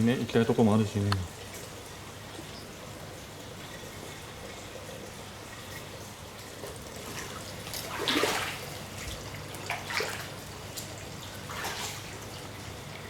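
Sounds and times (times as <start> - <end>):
water swishes: 0.0 - 13.0.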